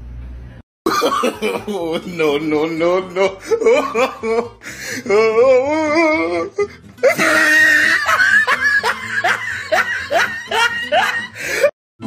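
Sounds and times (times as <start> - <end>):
person laughing hard: 0.9 - 11.7.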